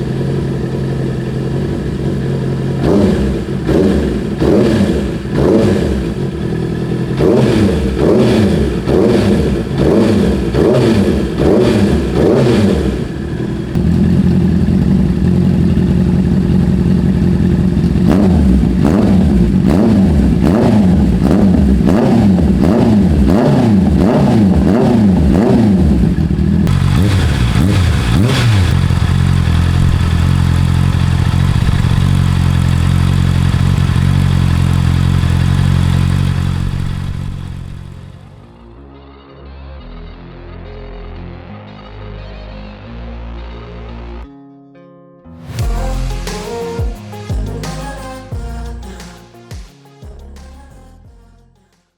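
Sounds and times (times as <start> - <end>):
motorcycle engine revving and idling: 0.0 - 38.4, 45.6 - 49.1.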